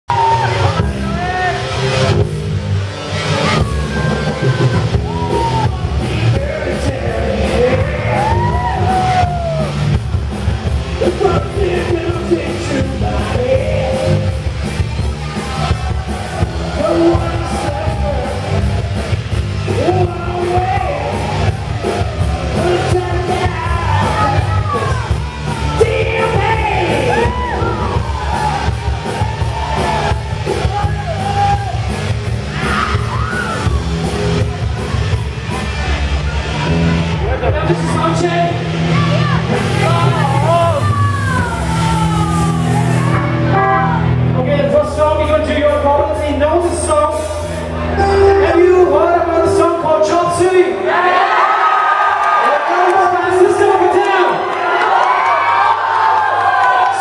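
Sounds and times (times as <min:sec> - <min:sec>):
crowd yelling and whooping: 0:00.0 - 0:44.6, 0:47.0 - 0:57.0
live rock band playing: 0:00.1 - 0:50.4.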